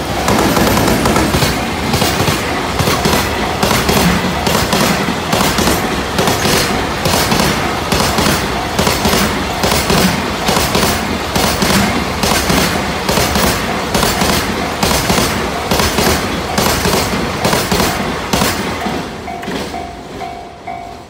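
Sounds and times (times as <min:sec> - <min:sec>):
freight train wheels rumbling: 0:00.0 - 0:21.0
wheels clacking over rail joints: 0:00.0 - 0:21.0.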